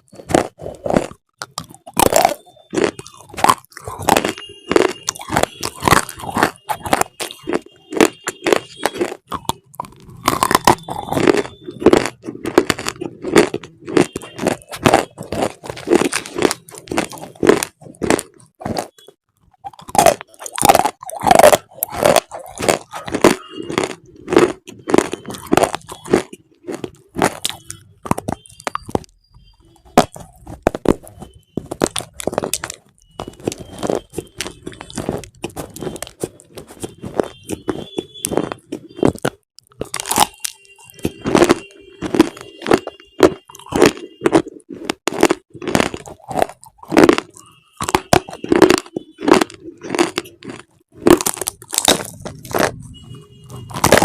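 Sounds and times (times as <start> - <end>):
crisp crunching: 0.0 - 29.1, 29.8 - 54.0.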